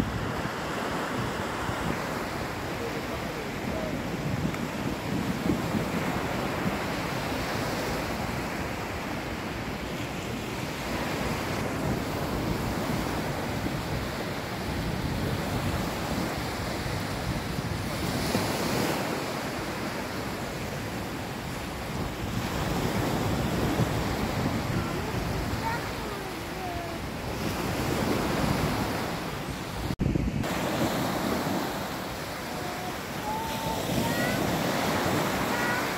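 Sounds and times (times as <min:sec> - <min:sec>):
surf washing onto beach: 0:00.0 - 0:35.9
wind buffeting microphone: 0:00.0 - 0:35.9.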